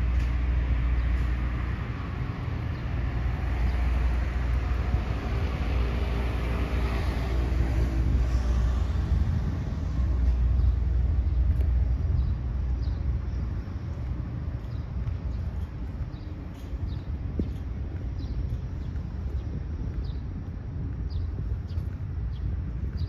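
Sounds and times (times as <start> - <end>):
wind rumble on microphone: 0.0 - 23.0
motor vehicle passing: 0.4 - 19.8.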